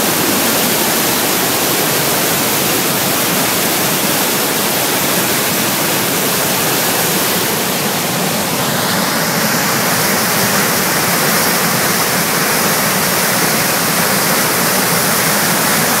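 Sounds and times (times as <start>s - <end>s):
water rushing through falls: 0.0s - 16.0s.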